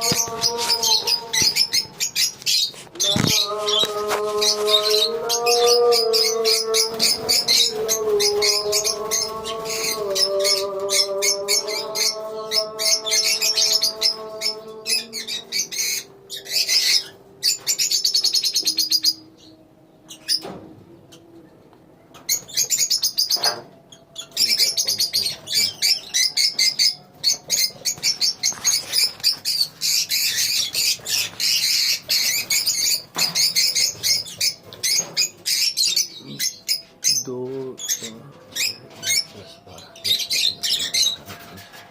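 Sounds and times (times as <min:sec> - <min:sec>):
lovebirds chattering: 0:00.0 - 0:21.4, 0:22.1 - 0:41.9.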